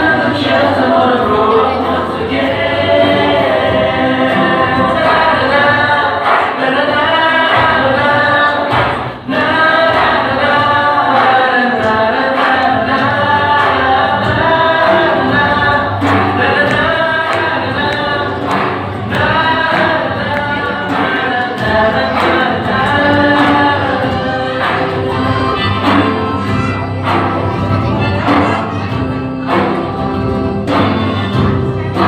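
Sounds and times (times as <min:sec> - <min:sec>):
children singing: 0:00.0 - 0:32.0
instrumental accompaniment: 0:00.0 - 0:32.0.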